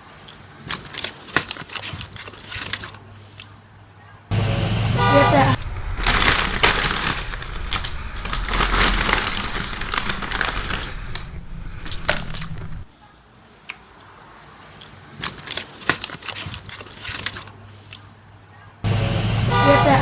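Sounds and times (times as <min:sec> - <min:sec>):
crackling crunching noise: 0:00.0 - 0:03.6, 0:04.3 - 0:18.1.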